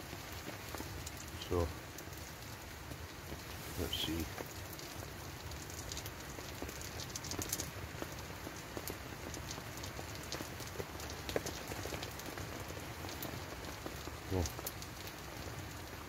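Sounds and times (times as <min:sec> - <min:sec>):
rain on tent fabric: 0:00.0 - 0:16.0.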